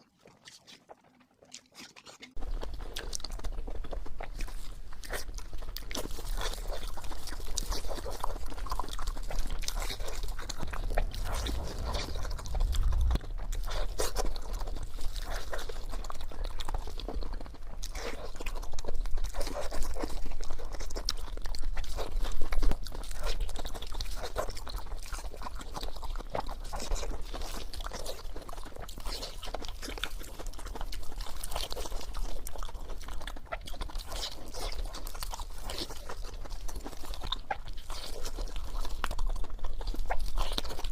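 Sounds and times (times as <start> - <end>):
person chewing crispy food: 0.0 - 40.9.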